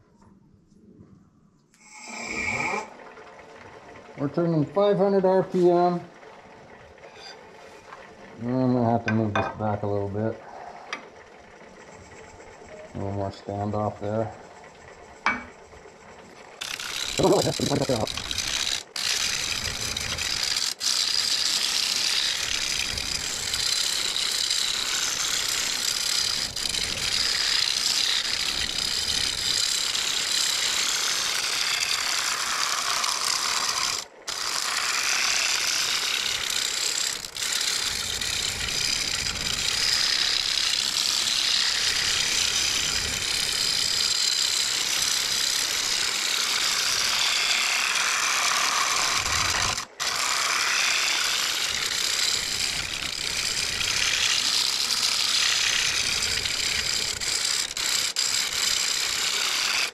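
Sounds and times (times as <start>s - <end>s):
scraper on spinning wood bowl: 1.9s - 59.9s.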